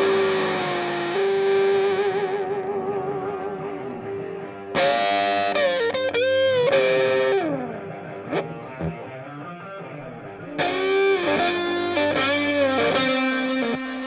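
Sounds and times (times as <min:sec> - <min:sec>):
distorted electric guitar music: 0:00.0 - 0:14.0.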